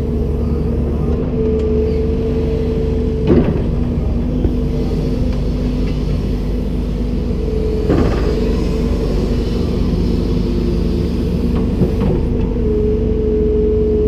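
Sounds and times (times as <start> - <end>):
excavator engine rumbling: 0.0 - 14.0
hydraulic whine: 0.0 - 14.0.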